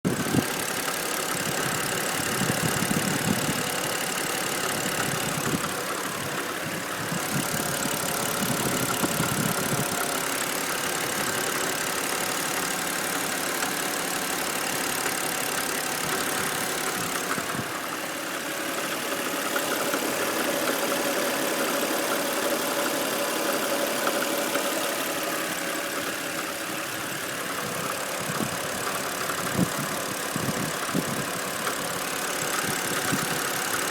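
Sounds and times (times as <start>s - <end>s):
car engine idling: 0.0s - 33.9s
engine knocking: 0.0s - 33.9s.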